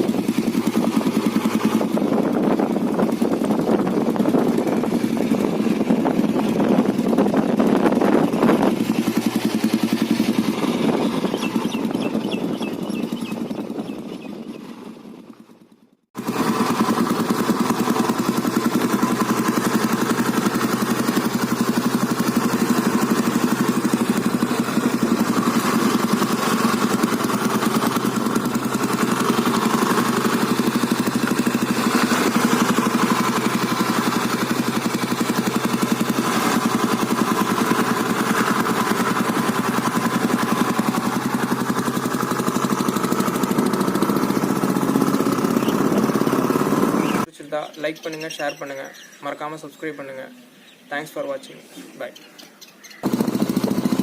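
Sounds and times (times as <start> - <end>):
motorcycle engine idling: 0.0 - 47.3, 52.6 - 54.0.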